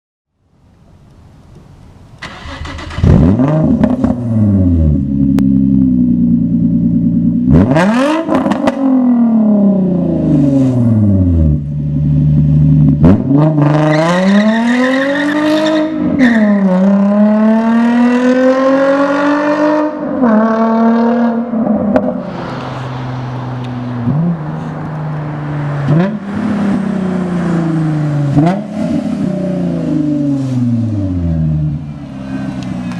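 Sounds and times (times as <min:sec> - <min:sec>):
car engine revving: 0:02.1 - 0:32.9.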